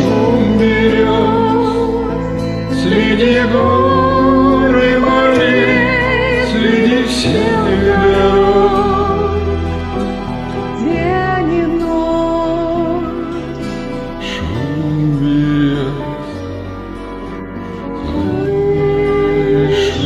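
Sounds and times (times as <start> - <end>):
person singing with vibrato: 0.0 - 20.0
sustained backing track: 0.0 - 20.0.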